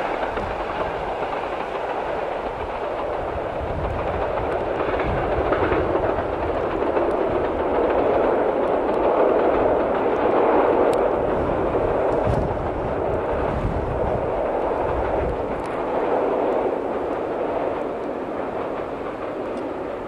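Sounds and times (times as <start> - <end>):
train passing over bridge: 0.0 - 20.0.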